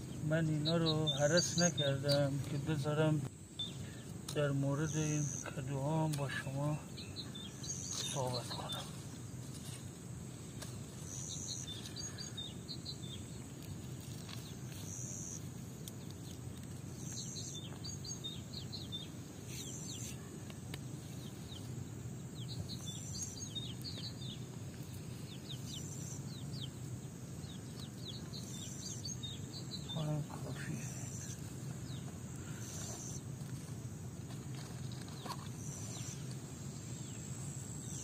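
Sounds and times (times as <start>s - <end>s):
low background noise: 0.0s - 38.0s
small birds chirping: 0.0s - 38.0s.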